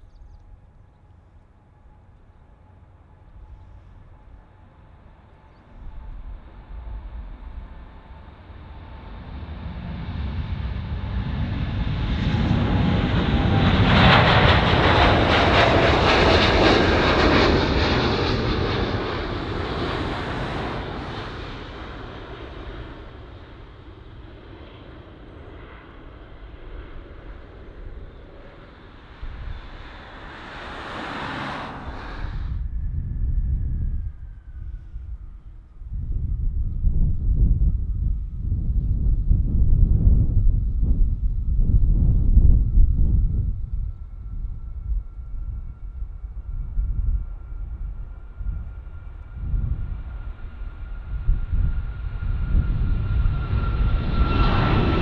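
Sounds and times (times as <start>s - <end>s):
jet engine whine: 0.0s - 55.0s
jet engines roaring at takeoff: 0.5s - 55.0s.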